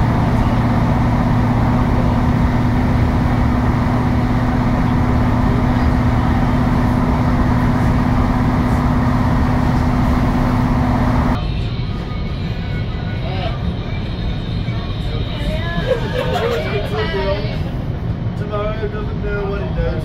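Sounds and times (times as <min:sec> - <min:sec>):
train cabin drone: 0:00.0 - 0:20.0.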